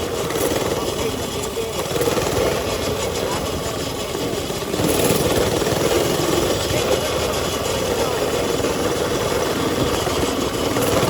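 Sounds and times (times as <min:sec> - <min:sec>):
mini bike engine running: 0:00.0 - 0:11.0.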